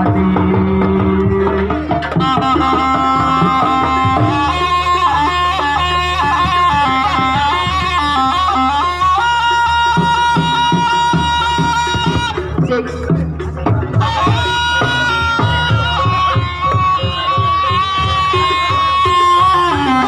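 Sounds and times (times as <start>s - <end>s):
shrill double-reed trumpet melody: 0.0s - 13.2s, 14.0s - 20.0s
drums: 0.0s - 20.0s.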